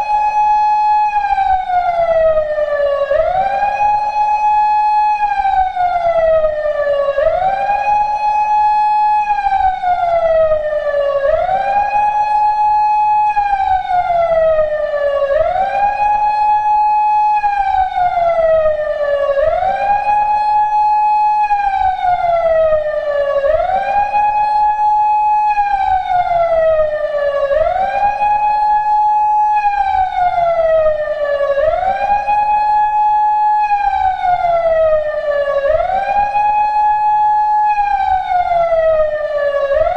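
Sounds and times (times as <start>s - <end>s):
electronic siren wailing: 0.0s - 39.9s.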